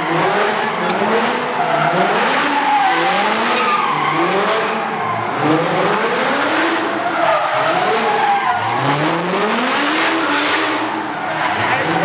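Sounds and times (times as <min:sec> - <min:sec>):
car engine revving: 0:00.0 - 0:12.0
tyres spinning and skidding: 0:00.0 - 0:12.0.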